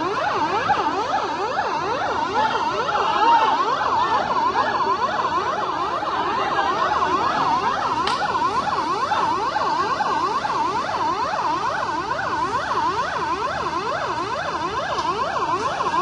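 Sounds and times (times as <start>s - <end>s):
emergency vehicle sirens yelping: 0.0s - 16.0s.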